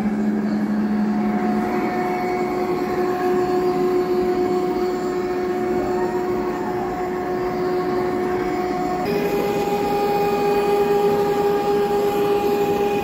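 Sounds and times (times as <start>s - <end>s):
model train humming and whining: 0.0s - 13.0s.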